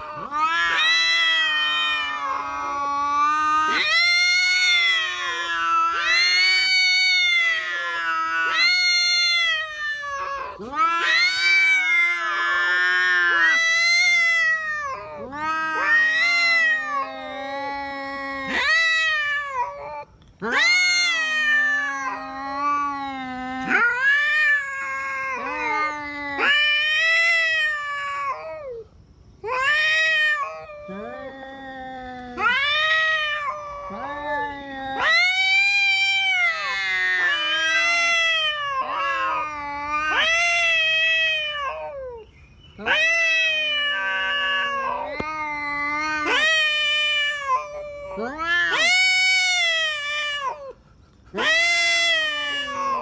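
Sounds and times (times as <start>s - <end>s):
cats caterwauling in a fight: 0.0s - 53.0s.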